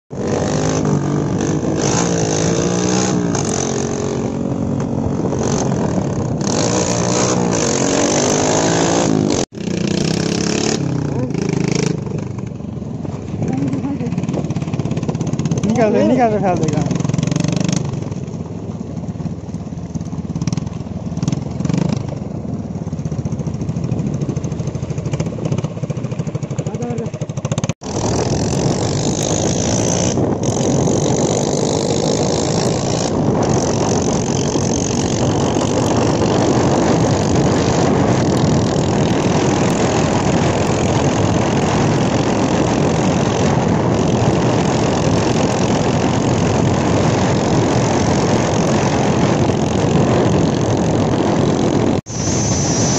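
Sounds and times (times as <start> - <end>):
dirt bike engine: 0.1 - 52.9
wind and road noise: 0.1 - 52.9.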